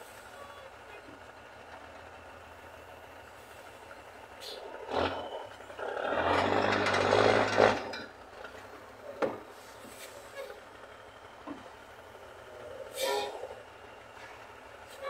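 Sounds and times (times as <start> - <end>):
truck engine climbing: 0.0 - 15.0.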